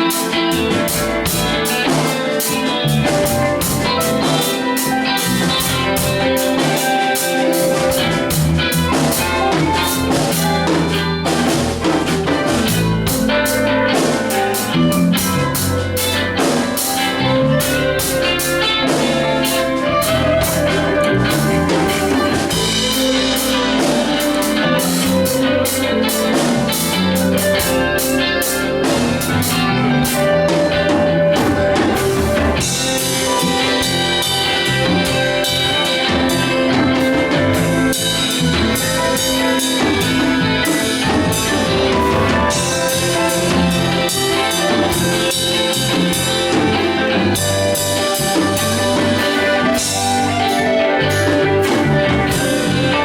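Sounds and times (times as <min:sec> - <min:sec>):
band playing: 0:00.0 - 0:53.0
drum kit cymbal beat: 0:00.0 - 0:53.0.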